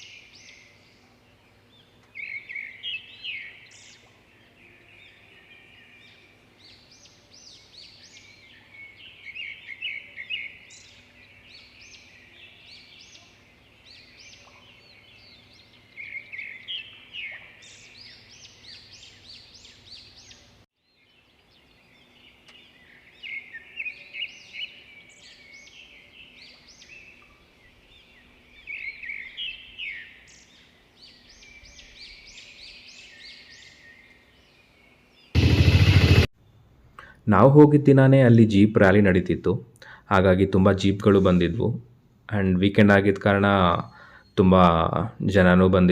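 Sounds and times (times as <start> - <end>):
wild birds chirping and trilling: 0.0 - 39.2, 39.8 - 45.9.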